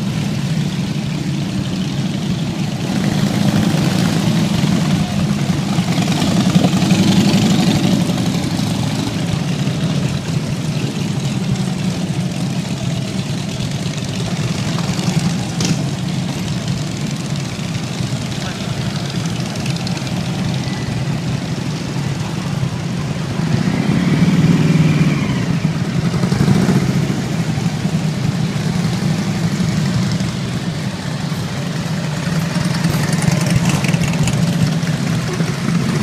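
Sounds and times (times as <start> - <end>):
motorcycle engines running: 0.0 - 36.0.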